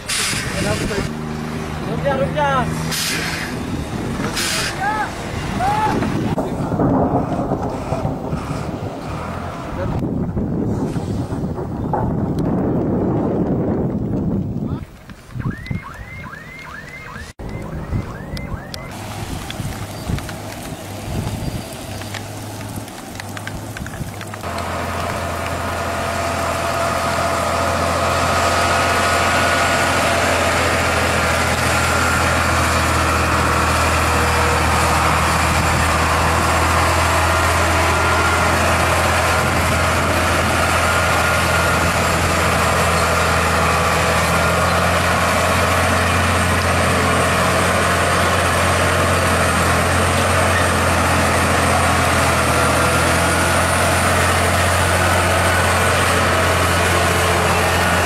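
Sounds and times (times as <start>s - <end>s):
diesel truck engine humming: 0.0s - 10.6s, 15.5s - 58.0s
wind-like outdoor noise: 0.0s - 58.0s.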